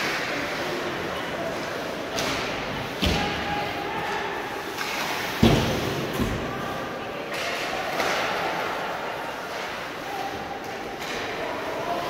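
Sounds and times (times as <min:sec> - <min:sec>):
voices echoing in gymnasium: 0:00.0 - 0:12.0.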